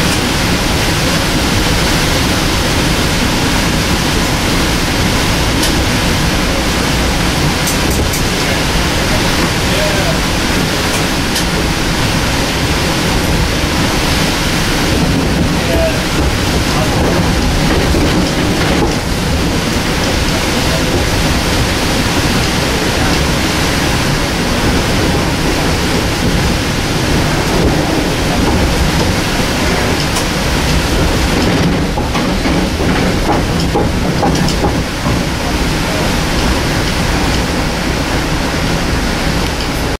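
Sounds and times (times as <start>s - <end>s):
train wheel and air noise: 0.0s - 39.9s.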